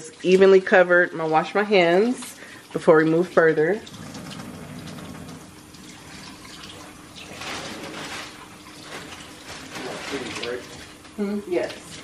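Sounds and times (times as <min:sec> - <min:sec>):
tap water running over hands: 0:00.0 - 0:12.0.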